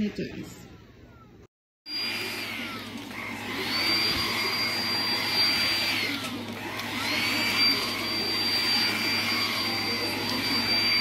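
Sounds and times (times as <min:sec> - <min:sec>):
vacuum motor high whine: 0:01.9 - 0:11.0.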